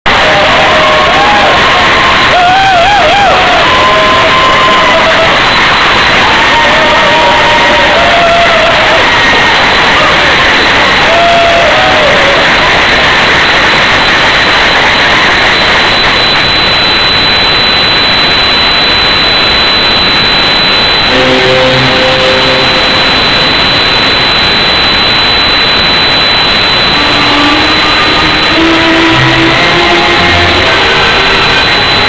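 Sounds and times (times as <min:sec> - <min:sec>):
loud rushing recording noise: 0:00.1 - 0:32.0.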